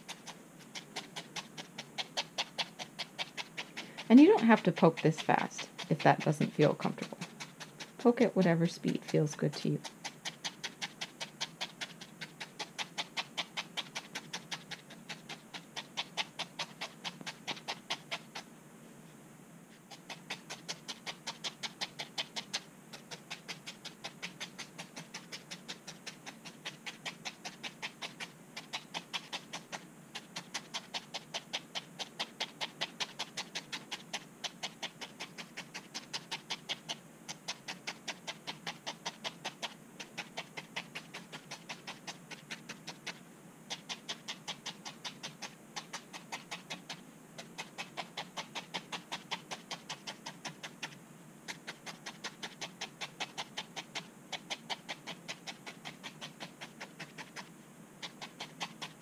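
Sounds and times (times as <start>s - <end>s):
felting needle poking wool: 0.0s - 18.5s, 19.8s - 59.0s.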